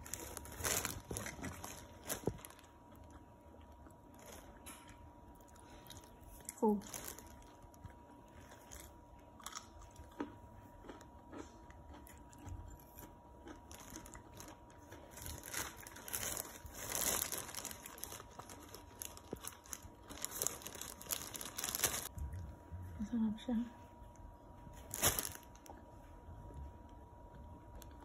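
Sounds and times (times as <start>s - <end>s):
person chewing crunchy food: 0.0s - 22.4s.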